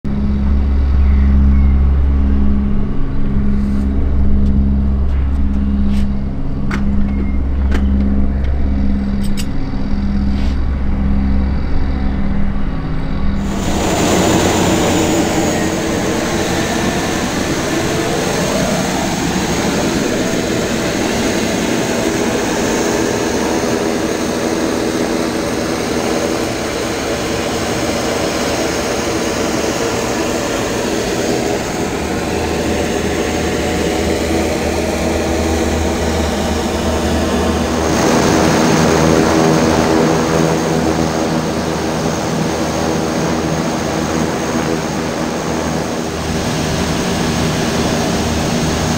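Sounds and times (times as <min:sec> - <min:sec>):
aircraft engine running: 0:00.0 - 0:48.9.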